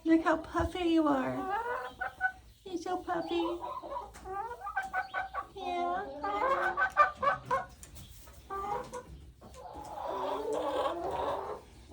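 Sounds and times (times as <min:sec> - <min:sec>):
hens clucking: 0:00.0 - 0:11.9.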